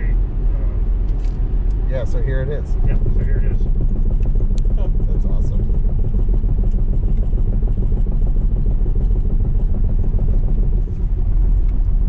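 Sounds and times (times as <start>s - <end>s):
tyre and road rumble: 0.0s - 12.0s.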